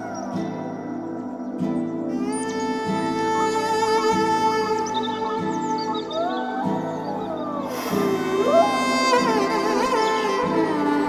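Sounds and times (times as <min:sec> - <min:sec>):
ambient music chords: 0:00.0 - 0:11.0.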